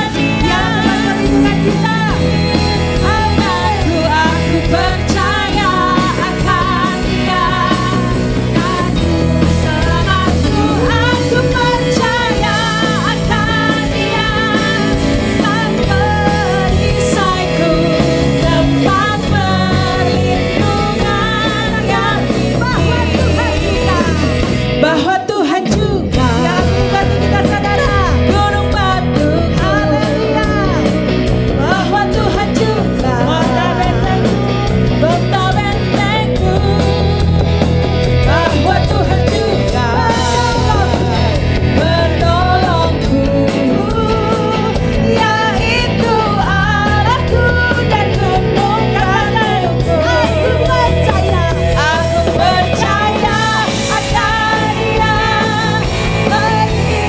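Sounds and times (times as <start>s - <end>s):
drum kit: 0.0s - 57.0s
electric guitar: 0.0s - 57.0s
keyboard: 0.0s - 57.0s
women singing lead: 0.0s - 57.0s.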